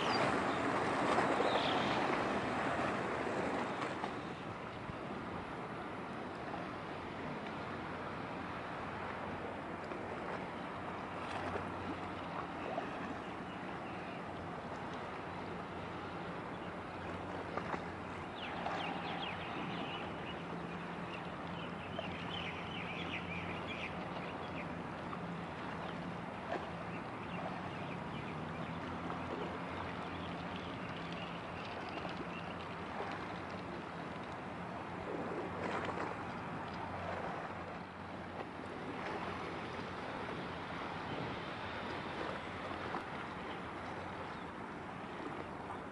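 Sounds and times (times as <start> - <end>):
water noise: 0.0 - 45.9
wind: 0.0 - 45.9.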